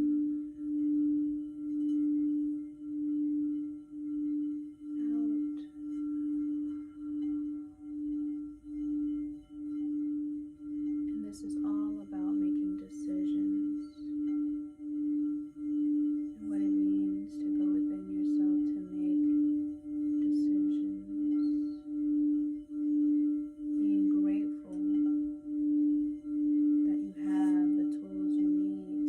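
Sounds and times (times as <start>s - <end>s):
singing bowl pulsing tone: 0.0s - 29.0s.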